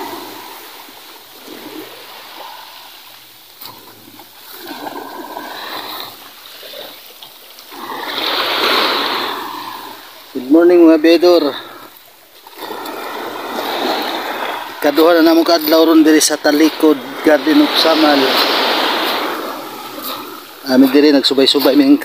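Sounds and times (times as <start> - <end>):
small waves washing onto pebbles: 0.0 - 22.0.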